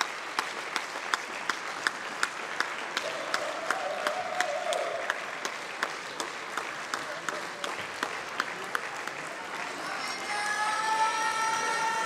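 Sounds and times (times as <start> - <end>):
rhythmic audience clapping: 0.0 - 12.0.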